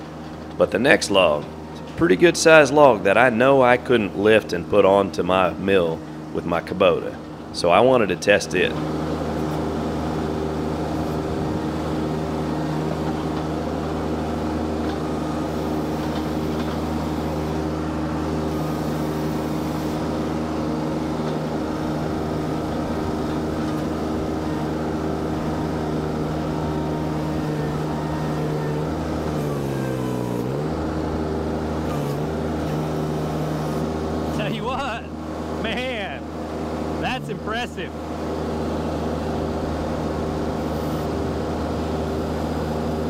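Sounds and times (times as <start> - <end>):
skid steer engine running: 0.0 - 43.0.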